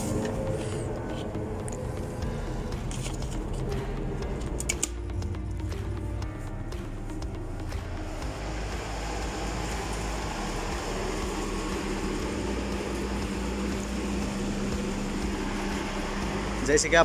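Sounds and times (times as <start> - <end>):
exhaust fan rushing air: 0.0 - 17.0
low fan hum: 0.0 - 17.0.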